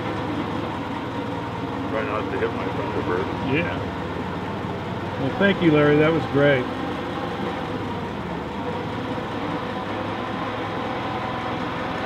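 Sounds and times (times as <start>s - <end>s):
old truck engine running: 0.0s - 12.0s.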